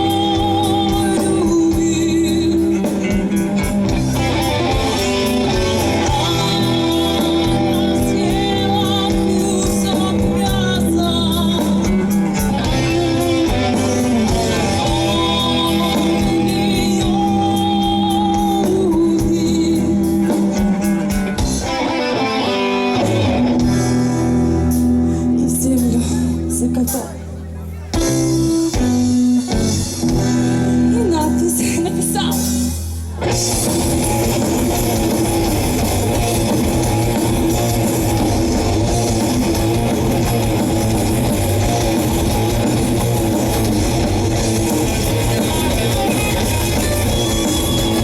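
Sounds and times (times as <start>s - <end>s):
electric guitar: 0.0s - 48.0s
rock band playing live: 0.0s - 48.0s.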